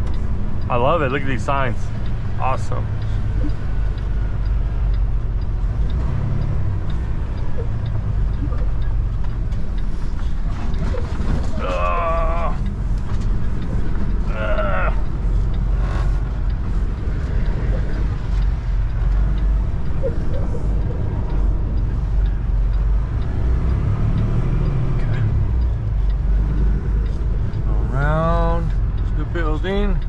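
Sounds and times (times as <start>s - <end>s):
truck diesel engine rumbling: 0.0s - 30.0s.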